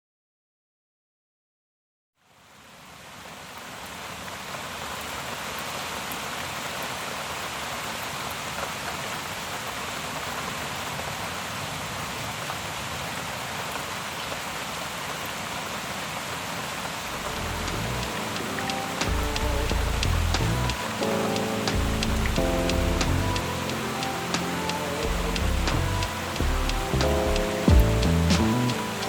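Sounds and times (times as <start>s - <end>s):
steady rain falling: 2.3s - 29.0s.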